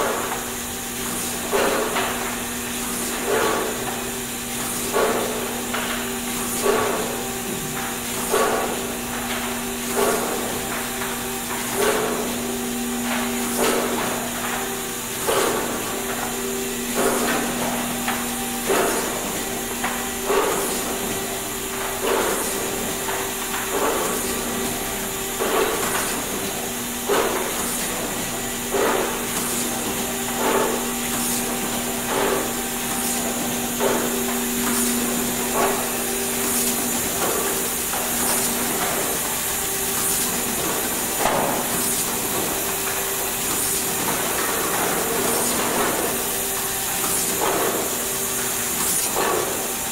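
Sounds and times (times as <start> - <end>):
machine hum and hiss: 0.0 - 49.9
machine knocking: 1.4 - 49.9.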